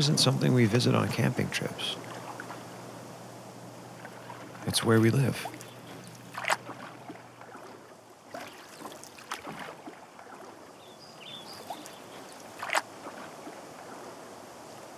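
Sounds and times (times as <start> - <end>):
water splashes: 0.0 - 14.9.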